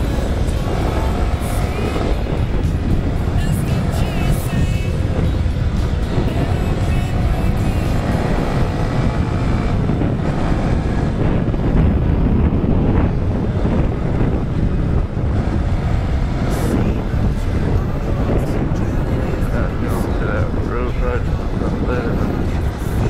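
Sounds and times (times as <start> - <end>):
motorcycle engine running: 0.0 - 23.0
wind rush on microphone: 0.0 - 23.0.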